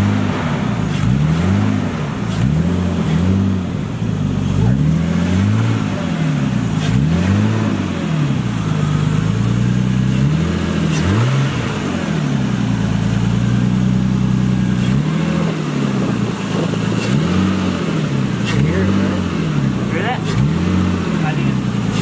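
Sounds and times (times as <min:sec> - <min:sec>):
turbocharged car engine revving: 0:00.0 - 0:22.0.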